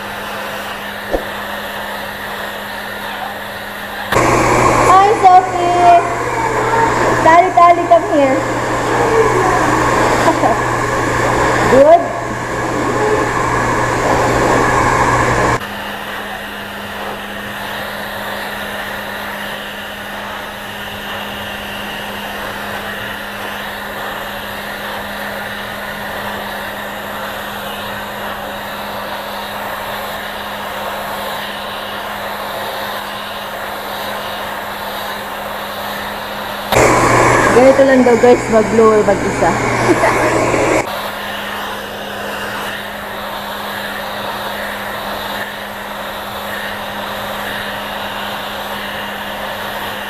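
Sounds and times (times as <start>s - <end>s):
hair dryer blowing: 0.0s - 50.0s.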